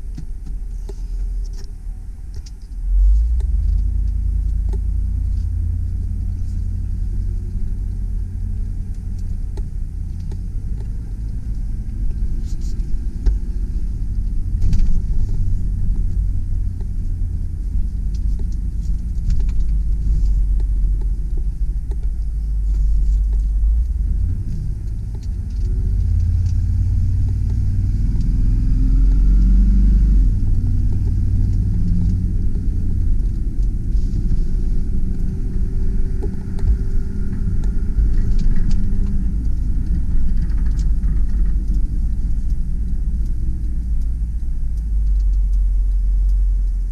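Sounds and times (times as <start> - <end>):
truck engine and road rumble: 0.0 - 46.9.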